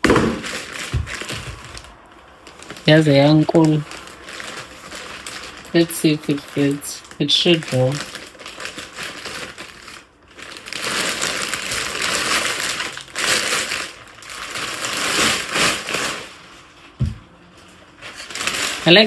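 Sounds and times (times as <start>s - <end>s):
straps rasping and rustling: 0.0s - 19.0s.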